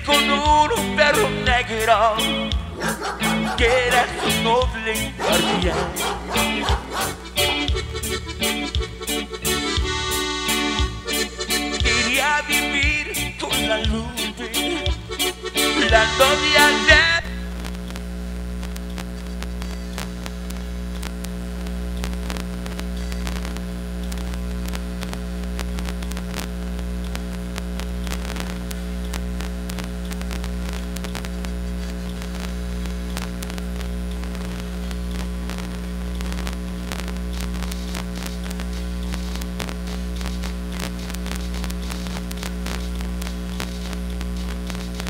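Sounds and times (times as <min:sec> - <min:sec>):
crackling static: 0:00.0 - 0:45.0
electrical mains hum: 0:00.0 - 0:45.0.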